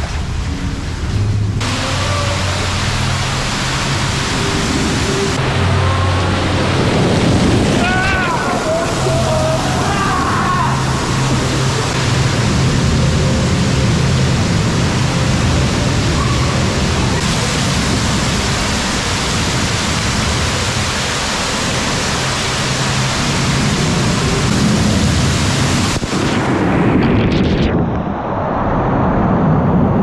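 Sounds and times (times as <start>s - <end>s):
waterfall rushing and splashing: 0.0s - 26.7s.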